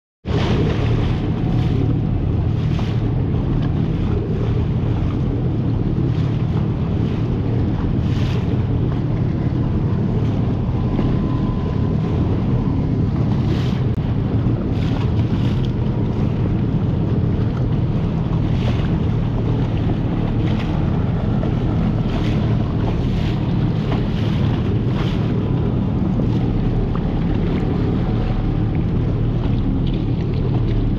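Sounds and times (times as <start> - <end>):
boat engine drone: 0.2 - 30.9
water splashing: 0.2 - 30.9
wind buffeting microphone: 0.2 - 30.9.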